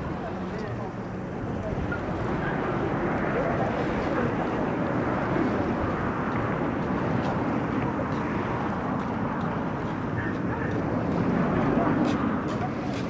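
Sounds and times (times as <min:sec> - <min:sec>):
distant crowd murmuring: 0:00.0 - 0:13.0
wind on microphone: 0:00.0 - 0:13.0.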